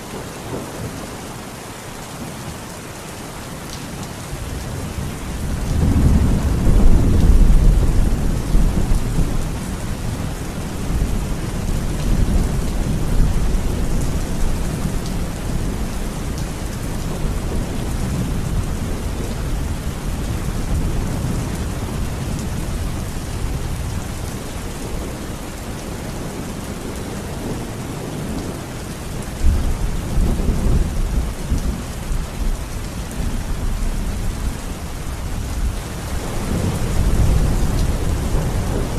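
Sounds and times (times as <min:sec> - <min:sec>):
heavy rain falling: 0:00.0 - 0:38.9
low rolling thunder: 0:04.4 - 0:38.9.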